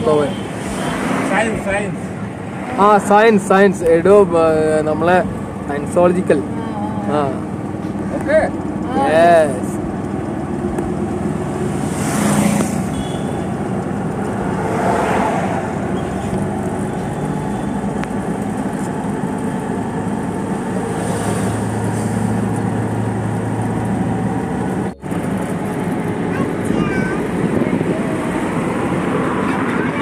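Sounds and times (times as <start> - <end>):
auto-rickshaw engine hum: 0.0 - 30.0
passing traffic: 0.0 - 30.0.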